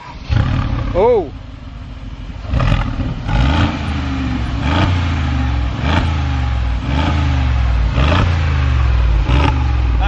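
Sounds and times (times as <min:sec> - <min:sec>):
car engine idling: 0:00.0 - 0:10.0
exhaust barking on throttle blips: 0:00.1 - 0:10.0.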